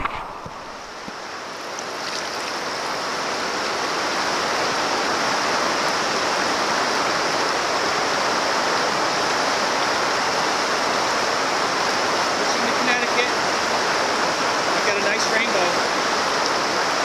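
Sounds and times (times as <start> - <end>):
river rushing and gurgling: 0.0 - 17.0.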